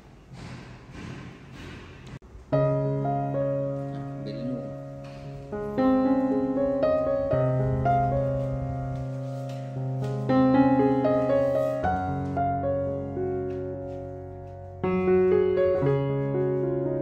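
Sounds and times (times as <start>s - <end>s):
slow instrumental melody: 2.6s - 17.0s.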